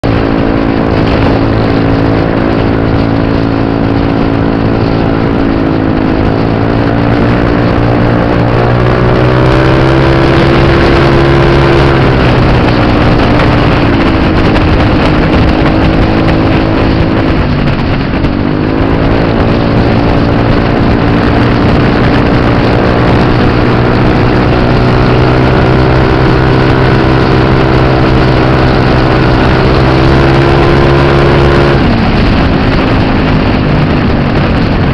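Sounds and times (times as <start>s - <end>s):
scooter engines running at high revs: 0.0s - 34.9s.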